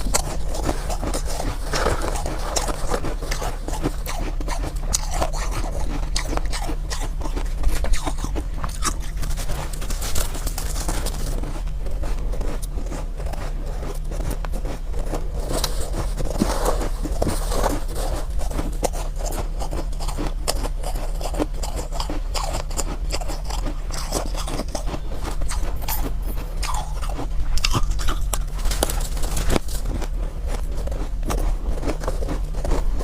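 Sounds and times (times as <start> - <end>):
ice crunching as chewed: 0.0 - 33.0
low hum: 0.0 - 33.0.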